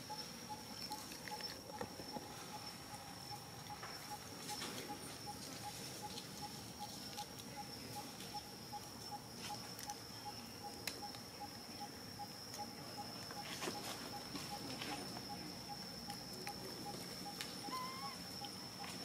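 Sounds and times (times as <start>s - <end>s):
high-pitched insect whine: 0.0s - 19.0s.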